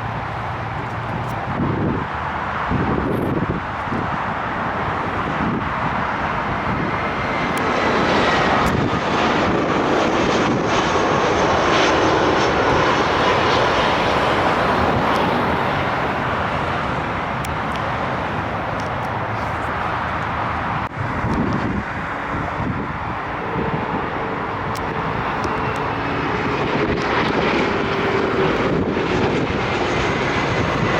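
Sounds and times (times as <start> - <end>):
airliner engines passing: 0.0 - 30.9
falling engine whine: 0.0 - 30.9.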